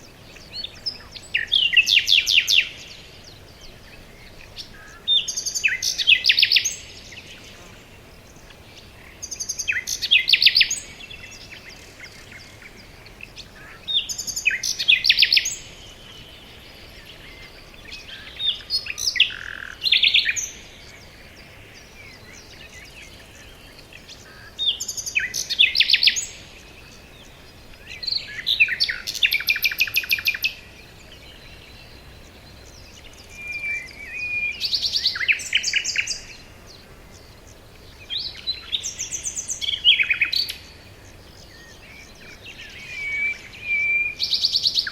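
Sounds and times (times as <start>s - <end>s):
faint steady hiss: 0.0s - 44.9s
songbird trills and chirps: 0.0s - 44.9s.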